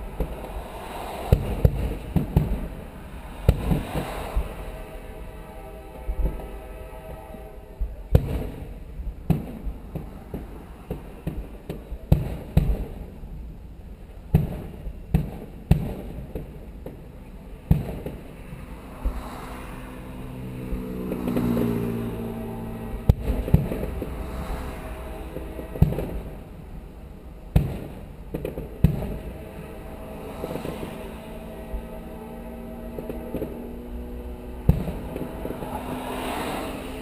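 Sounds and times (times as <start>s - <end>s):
low hum: 0.0s - 11.2s, 17.1s - 37.0s
fireworks bursting: 0.0s - 37.0s.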